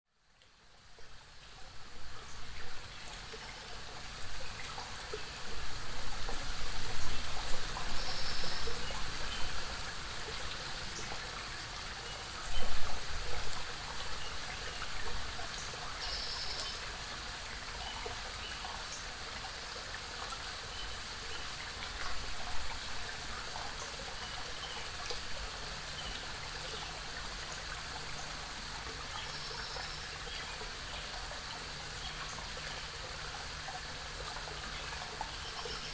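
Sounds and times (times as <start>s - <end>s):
waterfall and creek flowing: 0.1s - 35.9s.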